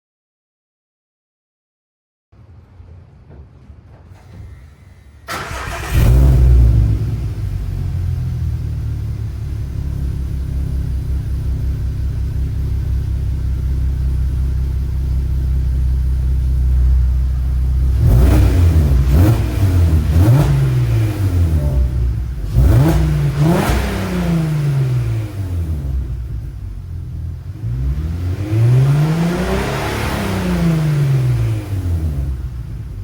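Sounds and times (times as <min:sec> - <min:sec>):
car engine idling and revving: 0:05.2 - 0:33.0.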